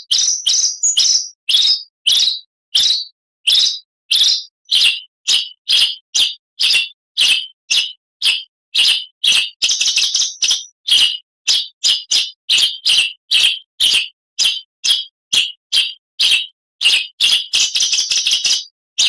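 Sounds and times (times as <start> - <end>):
magpie-robin singing: 0.0 - 18.7.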